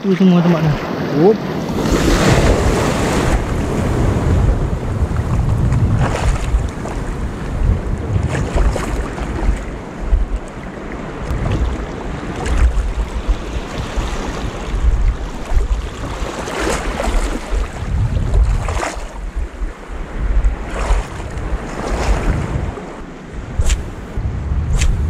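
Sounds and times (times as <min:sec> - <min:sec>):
surf on rocky shore: 0:00.0 - 0:25.0
wind buffeting microphone: 0:00.6 - 0:25.0.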